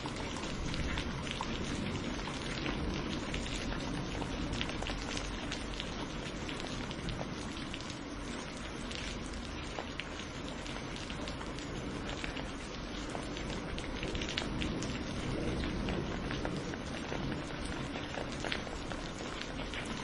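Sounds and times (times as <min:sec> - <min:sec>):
rain hissing: 0:00.0 - 0:20.0
raindrops pattering: 0:00.0 - 0:20.0.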